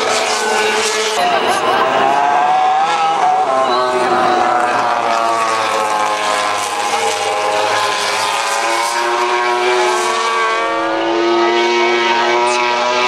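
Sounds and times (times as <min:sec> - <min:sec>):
race motorcycle engines: 0:00.0 - 0:13.0.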